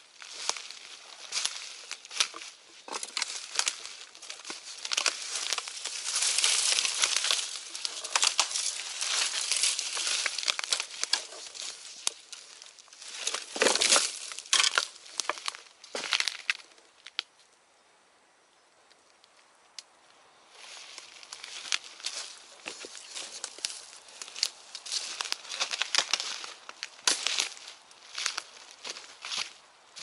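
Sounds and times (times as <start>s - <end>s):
footsteps crunching on dry leaves: 0.0s - 16.7s, 20.5s - 30.0s
branches brushing and scraping: 0.0s - 17.3s, 20.5s - 30.0s.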